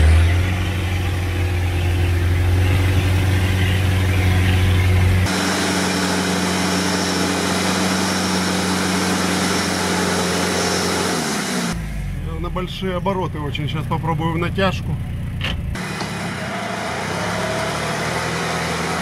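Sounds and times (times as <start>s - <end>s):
off-road engine revving high: 0.0s - 12.5s, 15.7s - 19.0s.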